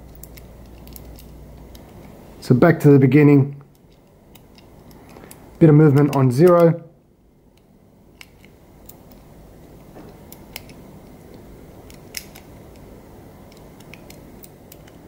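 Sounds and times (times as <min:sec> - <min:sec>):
padlock combination wheels clicking: 0:00.0 - 0:02.0, 0:03.7 - 0:06.7, 0:07.5 - 0:15.0
faint room noise: 0:00.0 - 0:15.0.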